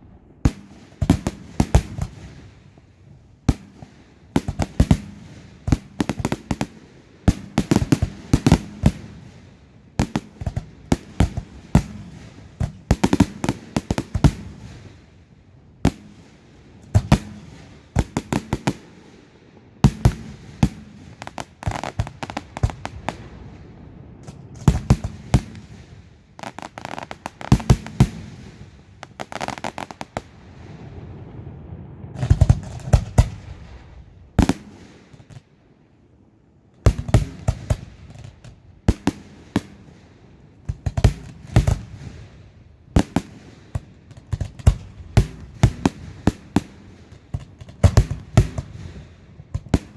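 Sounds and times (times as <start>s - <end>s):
fireworks bangs: 0.0s - 15.2s, 15.8s - 35.5s, 36.8s - 49.9s
crackling and rumbling echoes: 0.0s - 49.9s.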